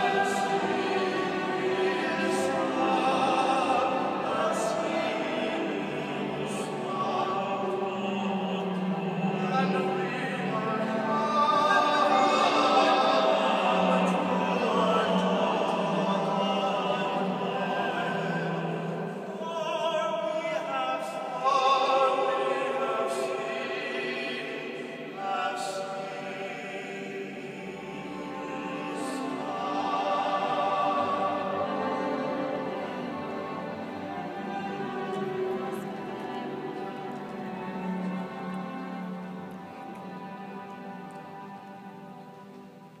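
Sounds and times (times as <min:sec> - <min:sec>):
orchestra playing: 0:00.0 - 0:20.8, 0:27.3 - 0:43.0
man singing opera: 0:00.0 - 0:34.7.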